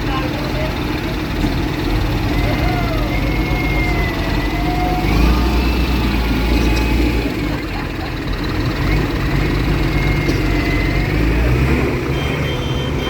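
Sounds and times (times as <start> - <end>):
tractor engines rumbling: 0.0 - 13.0.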